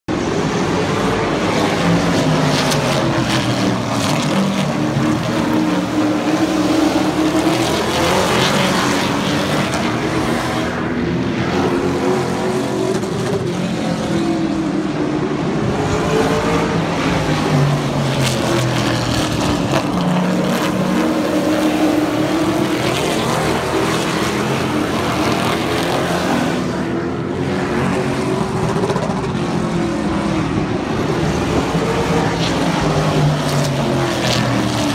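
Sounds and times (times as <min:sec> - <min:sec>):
racing truck engines revving: 0:00.1 - 0:34.9.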